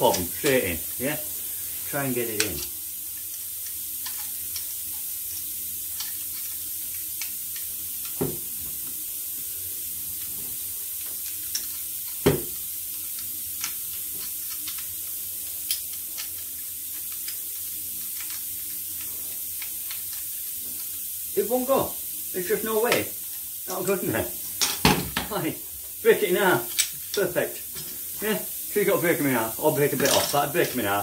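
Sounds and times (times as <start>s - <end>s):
steady air hiss: 0.0s - 31.0s.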